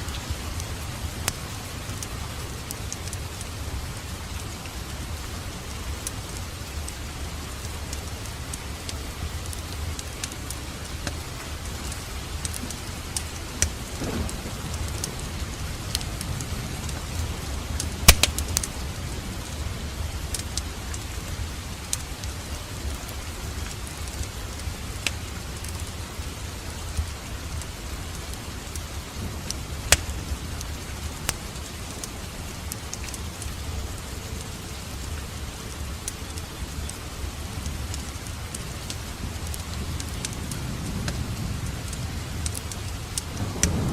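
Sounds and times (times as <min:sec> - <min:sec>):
fire crackling and popping: 0:00.0 - 0:43.9
low rumble of flame: 0:00.0 - 0:43.9.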